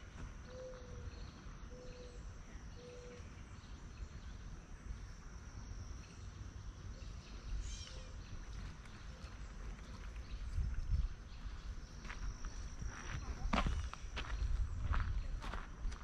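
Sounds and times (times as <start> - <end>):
high insect drone: 0.0 - 15.8.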